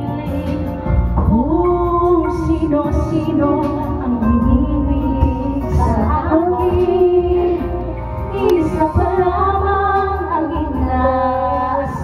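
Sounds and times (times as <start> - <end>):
recorded backing track: 0.0 - 12.0
women singing karaoke: 0.0 - 12.0.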